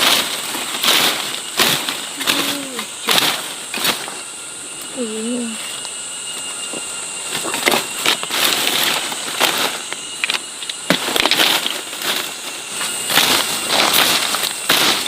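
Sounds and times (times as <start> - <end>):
crackling and rustling: 0.0 - 4.8, 5.6 - 15.0
high insect buzz: 0.0 - 15.0.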